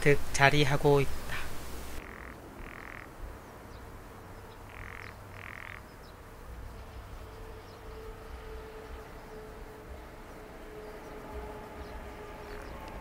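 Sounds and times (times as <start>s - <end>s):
faint steady hum: 0.0s - 13.0s
frogs croaking: 1.9s - 13.0s.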